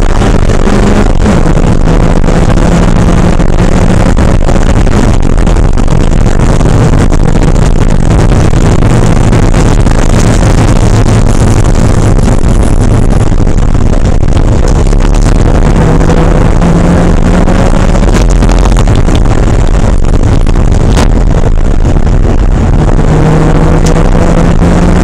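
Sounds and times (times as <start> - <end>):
car engine running hard: 0.0 - 25.0
wind and road noise: 0.0 - 25.0.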